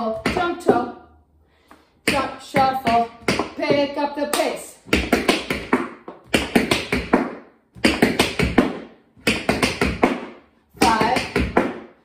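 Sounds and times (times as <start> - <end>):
tap shoes tapping: 2.1 - 11.8.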